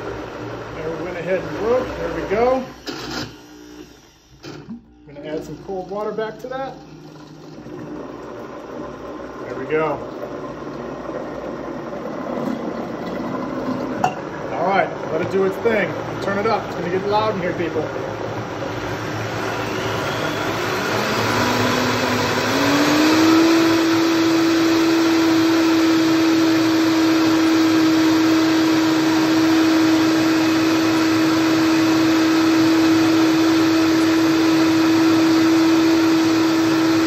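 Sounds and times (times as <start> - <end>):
blender motor whining: 0.0 - 14.0, 18.0 - 37.0.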